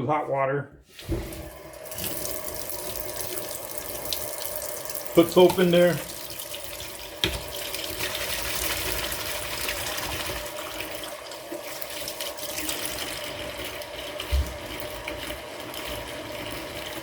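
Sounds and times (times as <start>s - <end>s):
water running from tap into sink: 0.9s - 17.0s.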